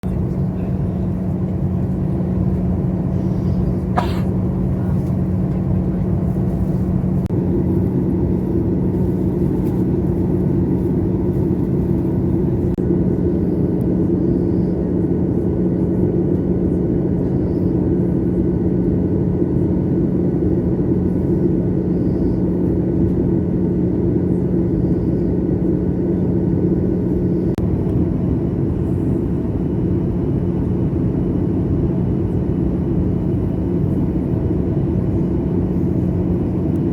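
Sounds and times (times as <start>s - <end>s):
low cabin hum: 0.0s - 18.9s, 19.6s - 36.9s
airliner engines and airflow: 0.0s - 36.9s.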